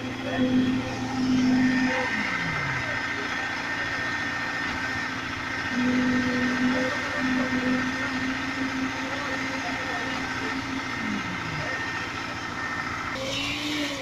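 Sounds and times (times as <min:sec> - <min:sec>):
concrete pump truck running: 0:00.0 - 0:14.0.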